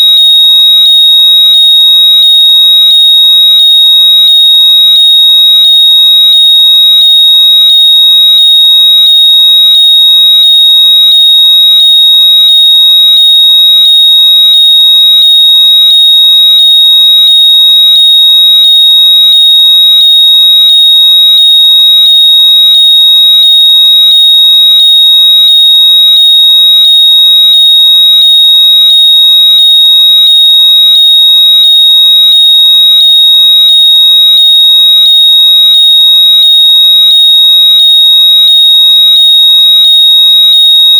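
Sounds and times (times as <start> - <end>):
high-pitched electronic tone: 0.0 - 40.9.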